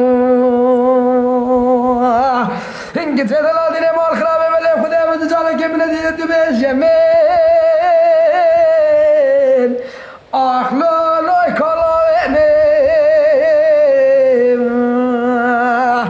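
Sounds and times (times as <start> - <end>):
person singing ornamented long notes: 0.0 - 16.0.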